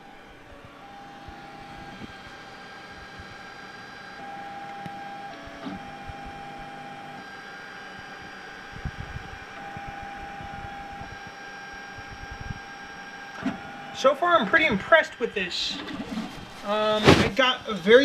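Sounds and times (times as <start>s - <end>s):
small cooling fan whirring: 0.0s - 18.0s
stepper motors whining: 0.0s - 18.0s.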